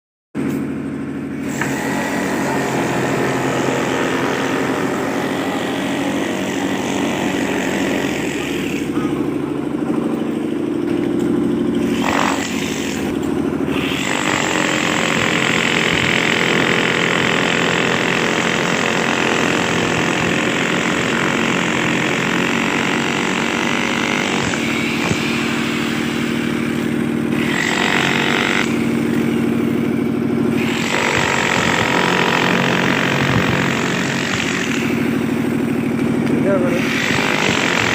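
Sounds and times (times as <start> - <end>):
motor humming: 0.6 - 37.9.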